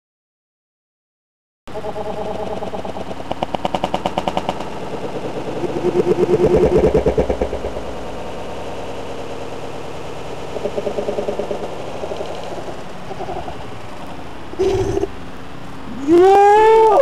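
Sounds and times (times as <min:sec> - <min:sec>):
engine rattling rapidly: 0:01.7 - 0:16.0.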